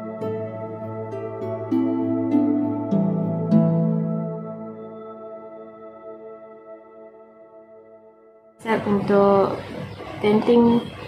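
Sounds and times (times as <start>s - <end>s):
soft new-age music: 0.0s - 11.0s.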